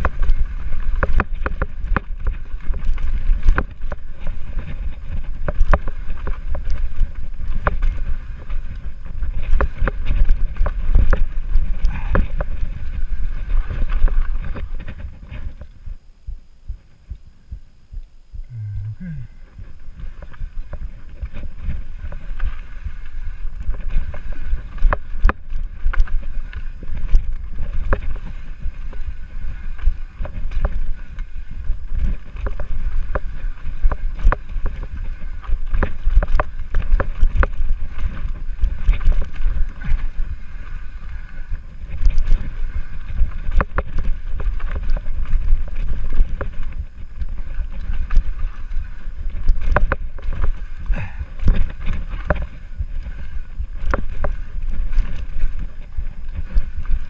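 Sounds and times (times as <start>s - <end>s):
bike rattling over rocks: 0.0s - 16.3s, 19.6s - 57.0s
wind buffeting microphone: 0.0s - 57.0s.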